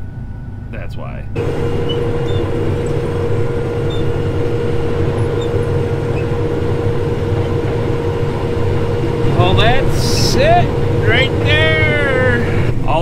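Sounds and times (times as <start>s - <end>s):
combine harvester engine rumble: 0.0s - 13.0s
constant machine whine: 0.0s - 13.0s.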